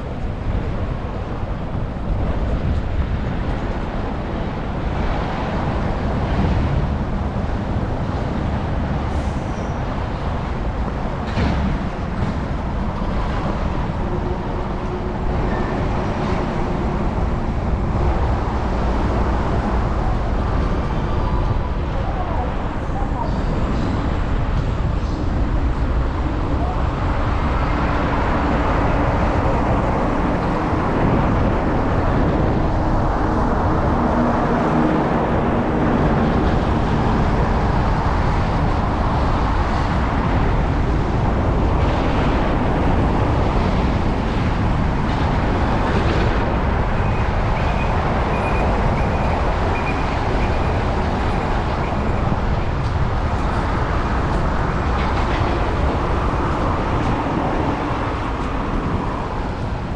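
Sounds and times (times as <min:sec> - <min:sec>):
passing motor traffic: 0:00.0 - 0:59.9
wind noise: 0:00.0 - 0:59.9.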